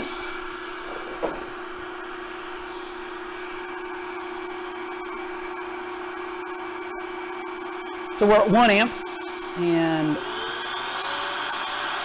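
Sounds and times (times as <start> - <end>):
blower motor rushing air: 0.0 - 12.0.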